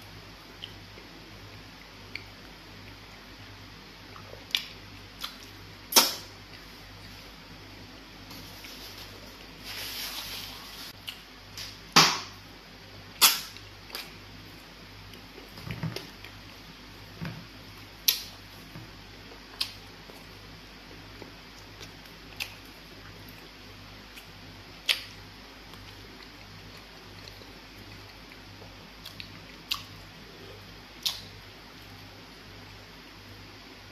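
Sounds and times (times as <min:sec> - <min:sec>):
faint low hum: 0:00.0 - 0:33.9.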